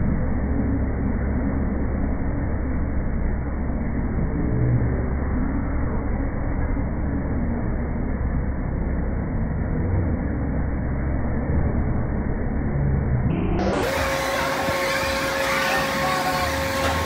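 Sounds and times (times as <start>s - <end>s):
high steady whine: 0.0s - 17.0s
ride low mechanical rumble: 0.0s - 17.0s.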